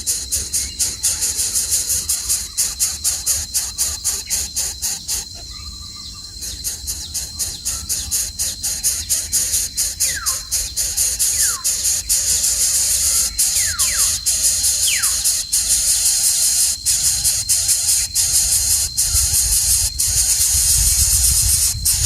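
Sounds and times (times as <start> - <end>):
pulsing high insect-like buzz: 0.0 - 22.0.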